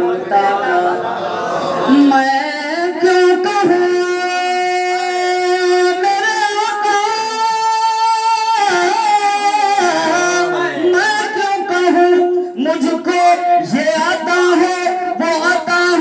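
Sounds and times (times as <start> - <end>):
man singing into a microphone: 1.8 - 16.0.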